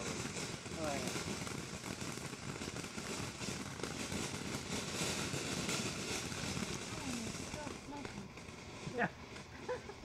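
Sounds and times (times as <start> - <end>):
firework fountain hissing and crackling: 0.0 - 10.0.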